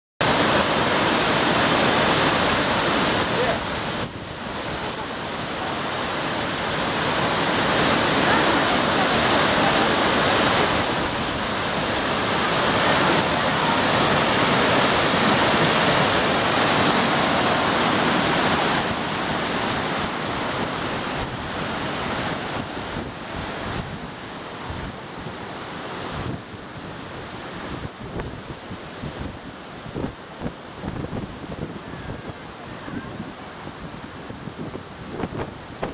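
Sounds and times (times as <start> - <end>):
waterfall rushing: 0.2 - 35.9.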